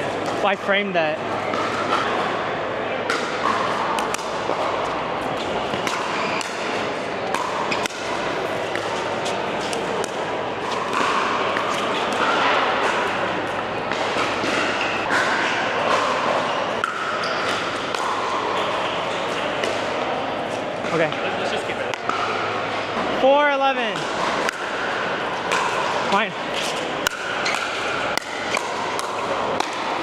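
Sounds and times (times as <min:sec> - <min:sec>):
background chatter of voices: 0:00.0 - 0:28.2.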